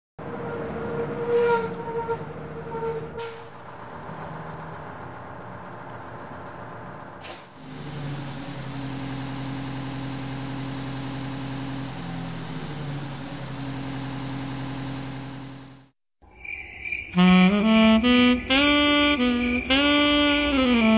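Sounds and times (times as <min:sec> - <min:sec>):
bus engine running: 0:00.2 - 0:15.9, 0:17.2 - 0:20.9.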